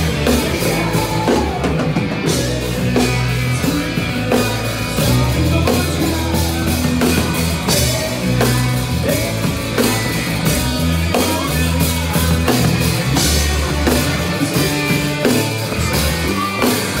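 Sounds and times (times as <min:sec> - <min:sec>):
drum kit beat: 0:00.0 - 0:17.0
electric bass low notes: 0:00.0 - 0:17.0
guitar: 0:00.0 - 0:17.0.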